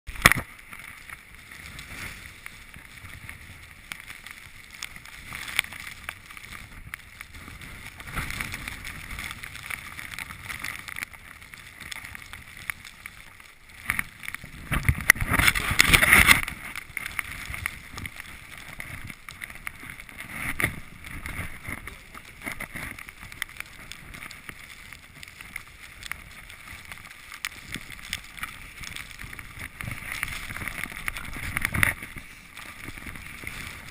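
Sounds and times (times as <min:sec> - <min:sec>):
skis scraping over snow: 0:00.3 - 0:33.9.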